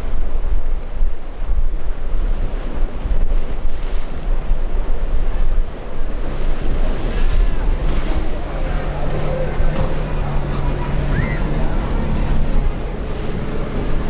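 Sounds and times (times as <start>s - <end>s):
outboard boat motor running: 0.0s - 14.0s
surf and churning water: 0.0s - 14.0s
wind buffeting microphone: 0.0s - 14.0s.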